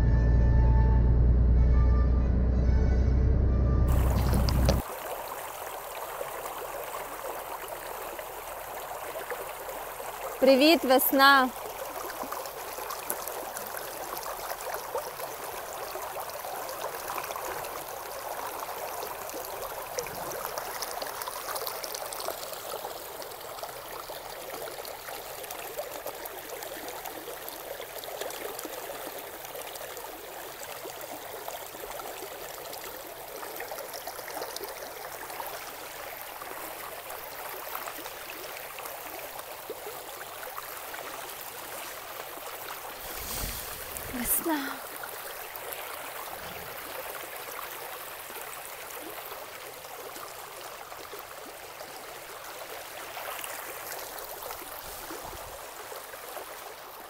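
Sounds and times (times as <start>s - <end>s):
stream babbling over stones: 3.9s - 57.0s.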